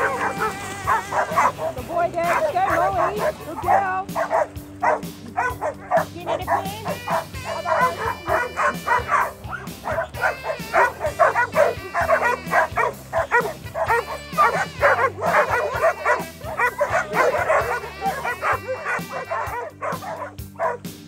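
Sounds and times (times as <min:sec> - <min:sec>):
background music: 0:00.0 - 0:21.0
dogs barking: 0:00.0 - 0:21.0.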